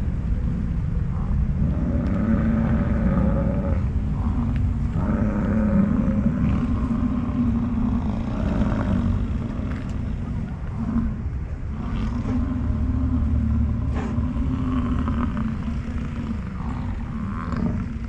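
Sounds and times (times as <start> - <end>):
low rumble: 0.0 - 18.0
bison bellowing: 1.1 - 18.0.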